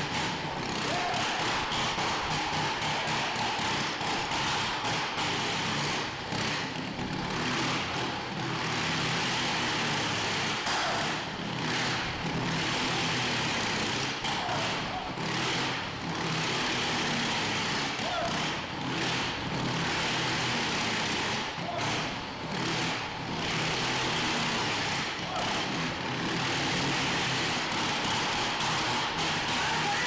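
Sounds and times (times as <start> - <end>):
motorcycle engine passing: 0.0 - 30.0.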